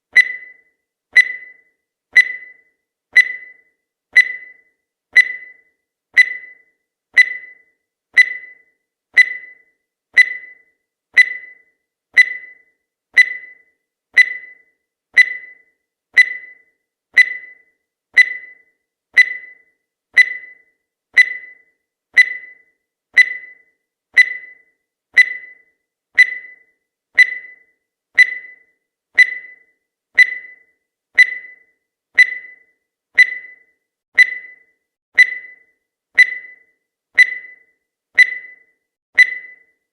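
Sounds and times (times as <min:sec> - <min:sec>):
short high-pitched electronic beeps: 0:00.2 - 0:39.9.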